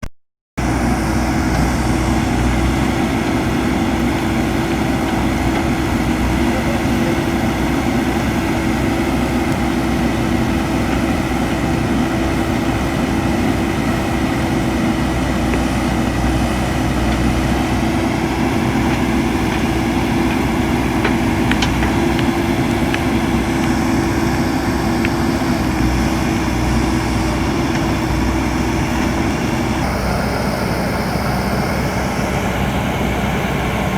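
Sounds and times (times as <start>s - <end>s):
diesel engine running: 0.6s - 33.9s.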